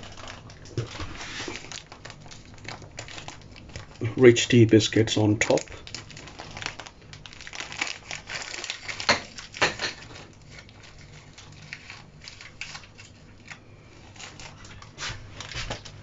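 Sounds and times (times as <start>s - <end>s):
biscuit packet crinkling: 0.0s - 16.0s
sharp plastic crackles: 0.0s - 16.0s.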